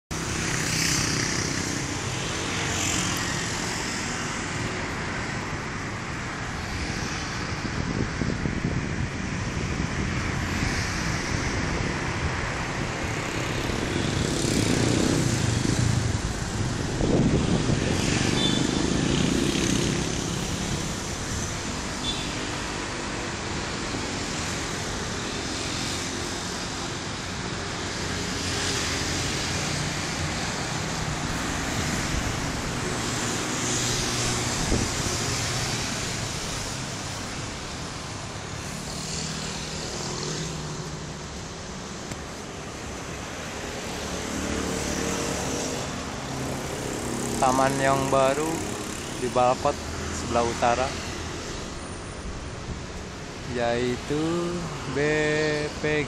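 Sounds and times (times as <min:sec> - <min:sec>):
road traffic: 0:00.1 - 0:56.0.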